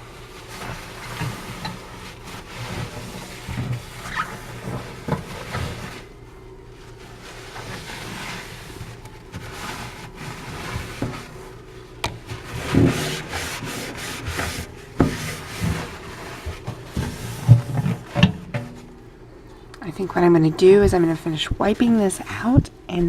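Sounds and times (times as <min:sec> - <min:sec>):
paper towel wiping a microwave: 0:00.0 - 0:18.9.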